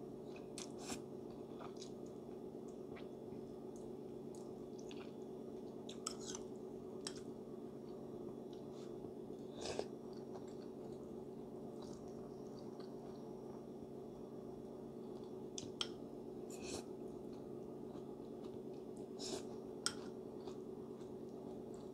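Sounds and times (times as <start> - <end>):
steady low hum: 0.0 - 21.9
person chewing noodles: 0.3 - 7.3, 7.9 - 13.4, 16.5 - 21.9.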